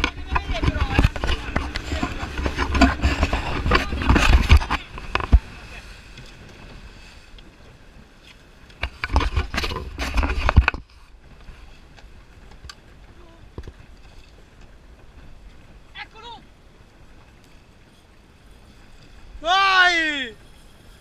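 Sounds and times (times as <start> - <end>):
boat rushing through water: 0.0 - 21.0.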